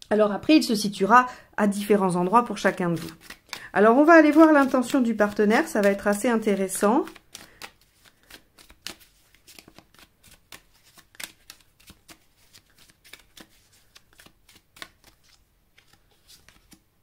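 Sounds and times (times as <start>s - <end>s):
cards being shuffled: 2.2s - 16.9s.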